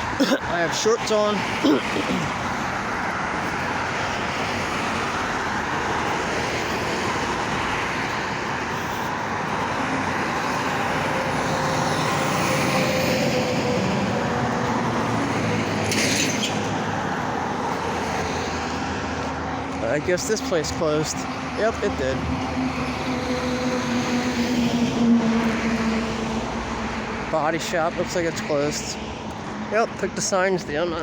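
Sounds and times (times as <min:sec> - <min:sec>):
heavy vehicle engine: 0:00.0 - 0:30.8
passing vehicles: 0:00.0 - 0:31.0.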